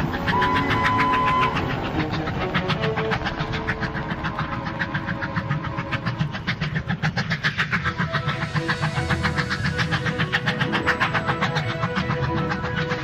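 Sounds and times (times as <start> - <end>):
cartoon vehicle chugging: 0.0 - 13.0.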